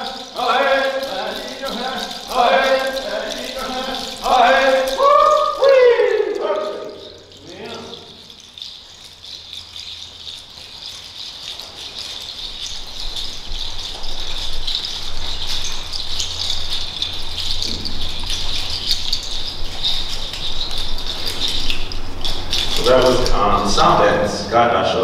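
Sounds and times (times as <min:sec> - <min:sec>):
rattles shaking: 0:00.0 - 0:25.0.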